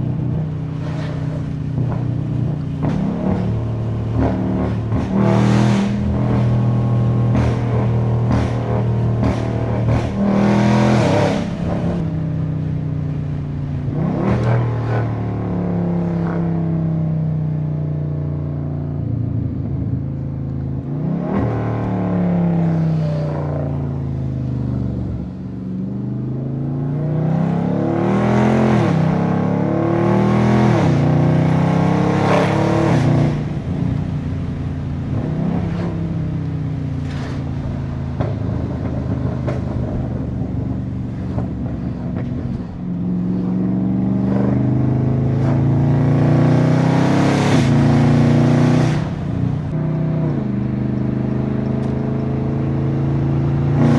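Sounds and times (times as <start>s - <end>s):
car exhaust accelerating: 0.0s - 53.9s.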